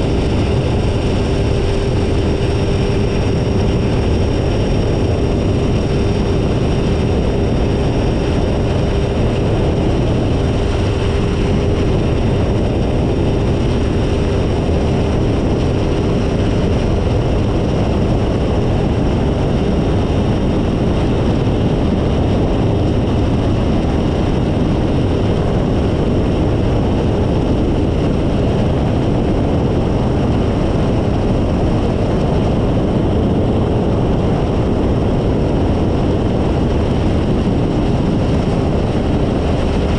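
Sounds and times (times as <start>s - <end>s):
heavy wind rush: 0.0s - 39.9s
steady whine: 0.0s - 39.9s
ultralight engine and propeller: 0.0s - 39.9s.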